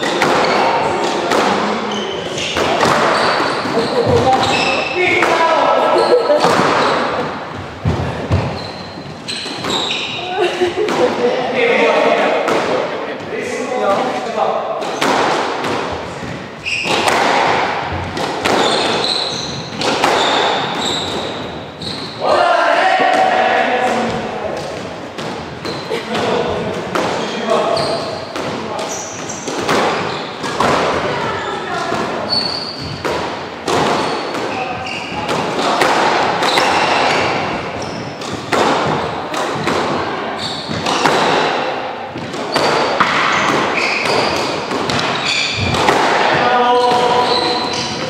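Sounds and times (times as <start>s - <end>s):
squash ball hits: 0.0s - 5.8s, 6.4s - 8.6s, 13.8s - 22.2s, 22.9s - 48.0s
shoes squeaking on wooden floor: 0.0s - 10.7s, 15.9s - 23.2s, 23.9s - 48.0s.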